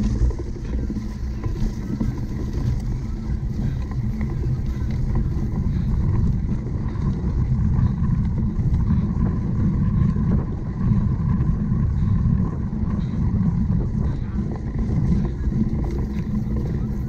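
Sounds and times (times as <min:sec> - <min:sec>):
bike clicks and rattles: 0:00.0 - 0:17.0
wind and riding rumble: 0:00.0 - 0:17.0.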